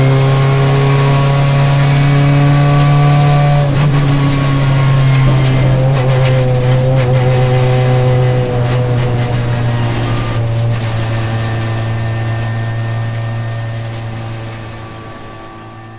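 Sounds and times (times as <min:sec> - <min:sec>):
racing car engine running: 0:00.0 - 0:15.9.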